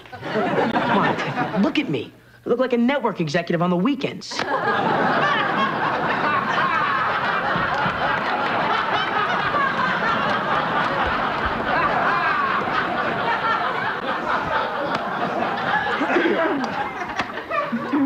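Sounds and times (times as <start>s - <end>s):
studio audience laughing: 0.0s - 1.6s, 4.4s - 18.0s.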